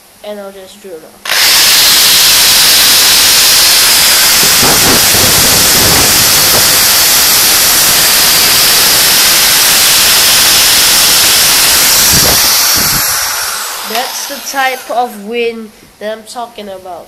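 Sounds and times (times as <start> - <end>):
drill fan air rushing: 1.2 - 15.2.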